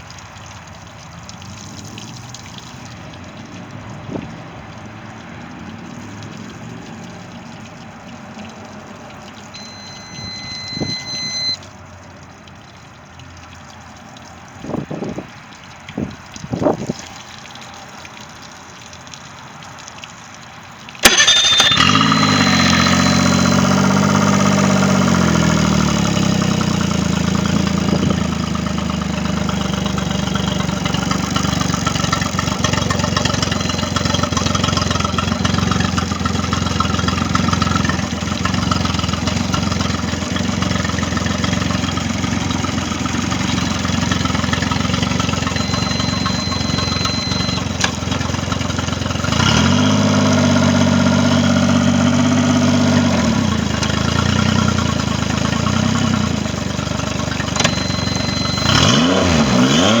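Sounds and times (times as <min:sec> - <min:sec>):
outboard motor idling and revving: 0:00.0 - 0:12.6, 0:21.0 - 1:00.0.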